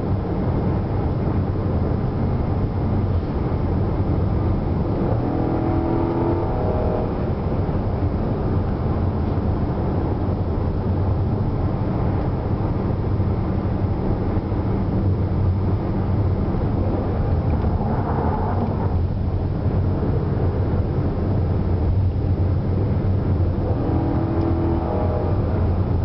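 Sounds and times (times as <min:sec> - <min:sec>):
car engine droning: 0:00.0 - 0:26.0
road noise: 0:00.0 - 0:26.0.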